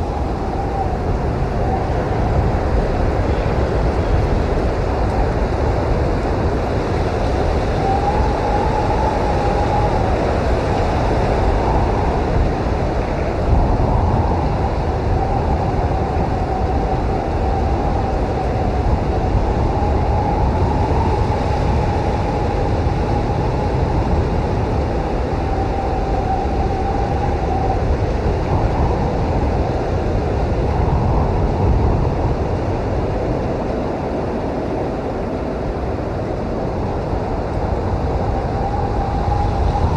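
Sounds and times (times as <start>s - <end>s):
blizzard wind rumbling: 0.0s - 39.9s
thin wind whistle: 0.0s - 39.9s.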